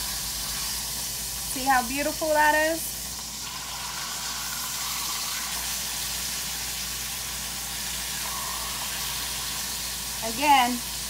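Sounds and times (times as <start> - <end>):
steaks sizzling in skillet: 0.0 - 11.0.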